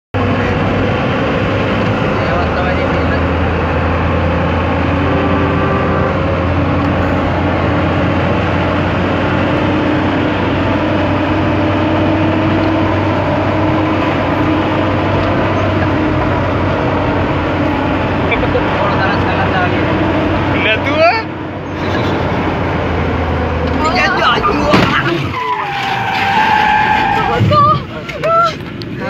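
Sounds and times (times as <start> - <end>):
engine and road noise in cabin: 0.2 - 29.0.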